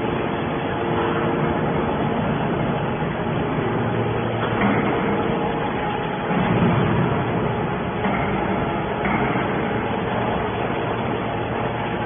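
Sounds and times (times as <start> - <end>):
hydraulic baler humming: 0.0 - 12.0.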